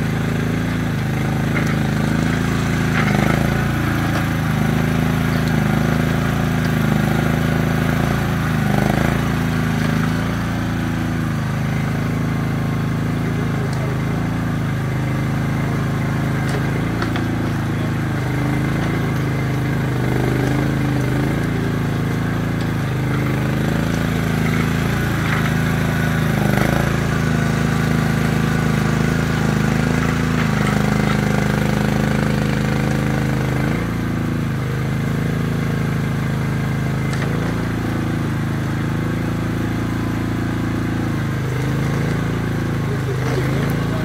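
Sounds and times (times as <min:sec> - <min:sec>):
excavator engine running: 0:00.0 - 0:44.0.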